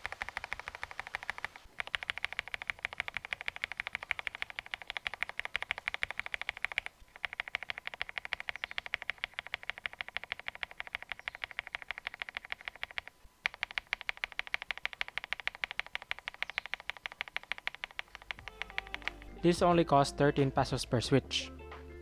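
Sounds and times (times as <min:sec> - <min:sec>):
mechanical keyboard typing clacks: 0:00.0 - 0:19.3.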